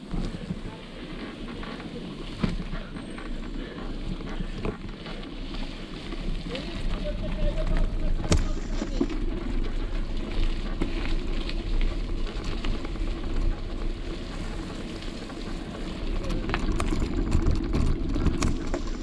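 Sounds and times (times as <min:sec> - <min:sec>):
bike tyres crackling over gravel: 0:00.0 - 0:19.0.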